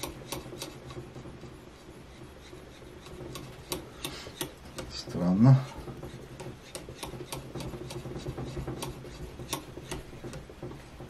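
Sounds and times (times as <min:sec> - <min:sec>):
abrasive rubbing on blade edge: 0:00.0 - 0:10.5.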